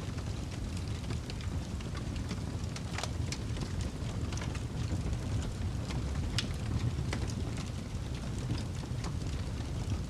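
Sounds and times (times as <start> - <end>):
fire crackles: 0.0 - 10.0
fire roaring: 0.0 - 10.0.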